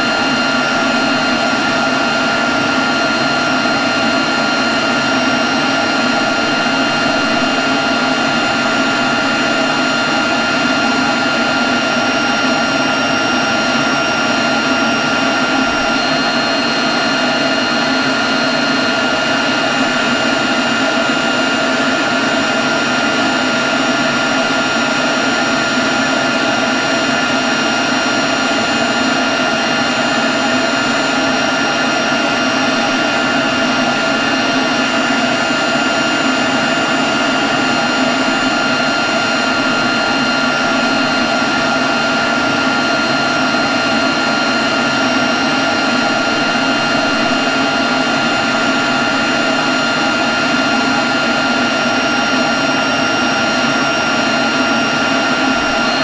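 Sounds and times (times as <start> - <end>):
leaf blower running: 0.0 - 56.0.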